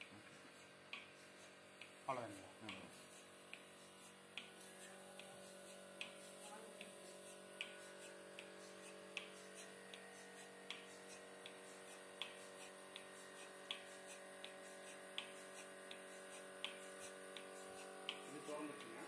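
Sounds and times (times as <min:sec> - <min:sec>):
milking machine pulsator ticking: 0:00.0 - 0:19.0
vacuum pump motor hum: 0:00.0 - 0:19.0.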